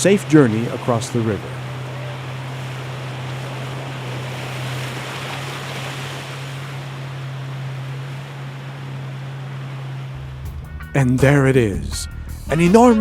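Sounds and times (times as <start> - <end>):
boat motor humming: 0.0 - 13.0
water rushing: 0.0 - 13.0
wind: 0.0 - 13.0.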